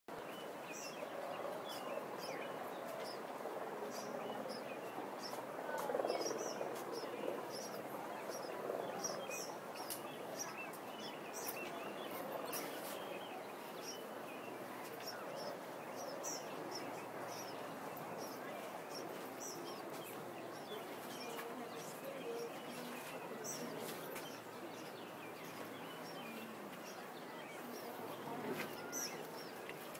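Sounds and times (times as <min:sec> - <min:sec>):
outdoor ambience murmur: 0:00.1 - 0:29.9
small birds chirping: 0:00.2 - 0:29.9.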